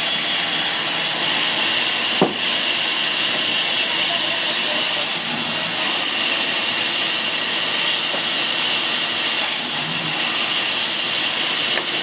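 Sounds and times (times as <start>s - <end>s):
saw cutting through wood: 0.0s - 12.0s.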